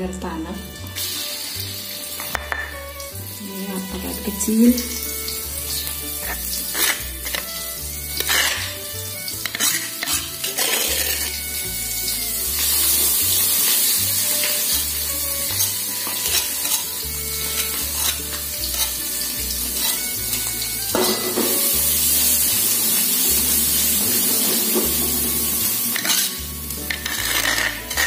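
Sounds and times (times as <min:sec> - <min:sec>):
spice paste sizzling in a wok: 0:00.3 - 0:28.0
metal spatula scraping a pan: 0:03.8 - 0:28.0.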